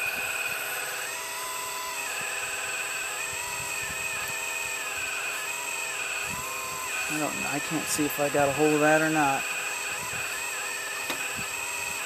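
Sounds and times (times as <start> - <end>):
hydraulic pump whine: 0.0 - 12.0.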